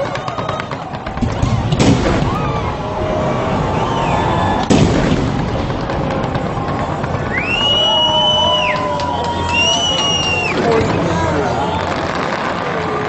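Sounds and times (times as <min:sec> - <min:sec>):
fireworks rumble and crackling: 0:00.0 - 0:13.0
loud firework booms: 0:00.2 - 0:08.8, 0:10.0 - 0:13.0.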